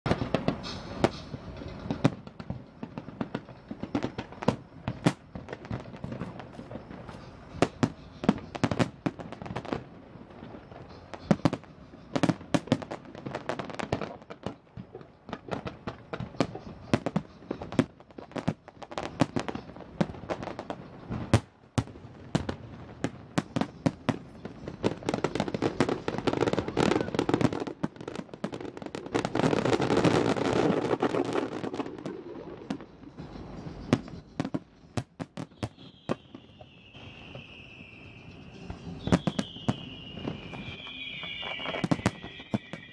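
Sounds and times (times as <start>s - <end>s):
fireworks bangs: 0.1s - 42.9s.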